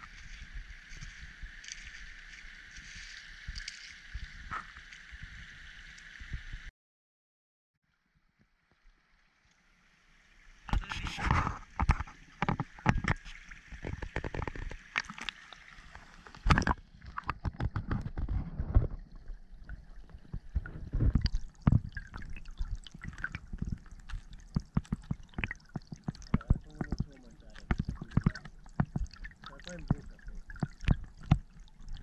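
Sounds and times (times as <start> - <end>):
gurgling water underwater: 0.0 - 6.7, 10.6 - 32.0.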